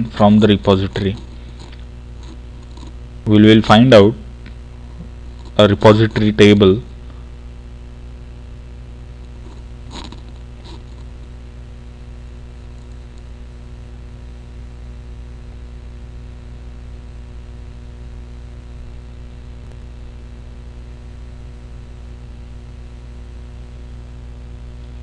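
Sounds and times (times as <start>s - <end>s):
low electrical hum and hiss: 0.0s - 25.0s.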